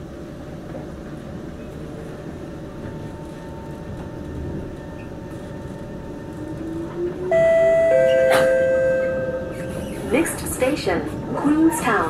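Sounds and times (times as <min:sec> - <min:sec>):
train wheel and rail noise: 0:00.0 - 0:12.0.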